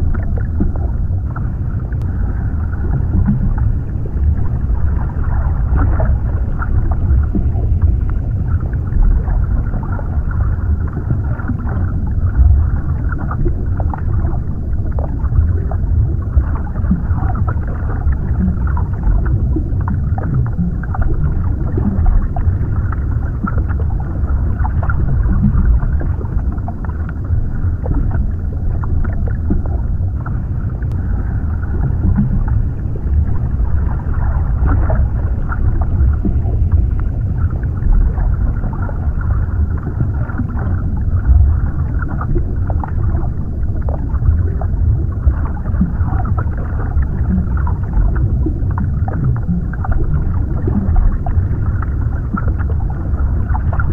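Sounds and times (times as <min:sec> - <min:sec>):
deep underwater rumble: 0:00.0 - 0:53.9
faint bubbling: 0:00.0 - 0:53.9
muffled water movement: 0:00.0 - 0:53.9.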